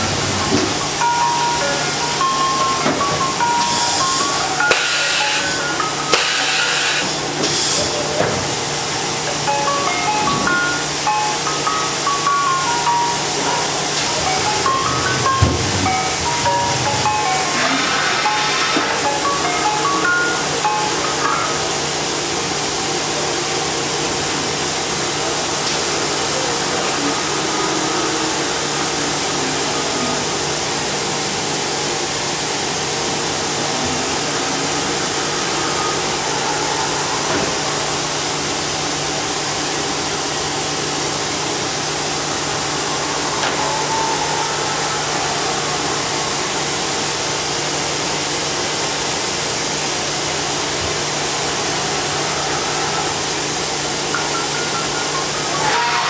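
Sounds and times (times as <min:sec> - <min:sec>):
axis drives whining: 0:00.0 - 0:22.4, 0:33.0 - 0:56.0
machine hum and hiss: 0:00.0 - 0:56.0.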